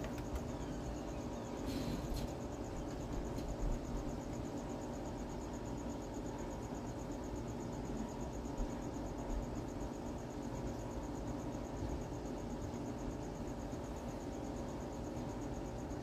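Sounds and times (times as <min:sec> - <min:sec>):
cricket chirping: 0:00.0 - 0:16.0
low steady hum: 0:00.0 - 0:16.0.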